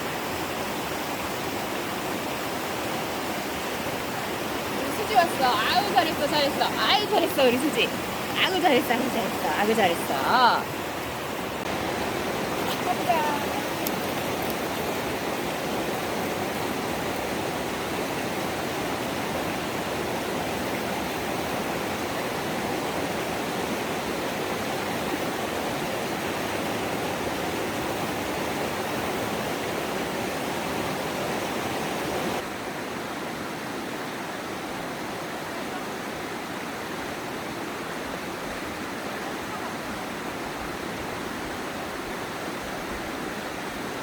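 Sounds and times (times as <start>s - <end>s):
river water rushing over rocks: 0.0s - 44.0s.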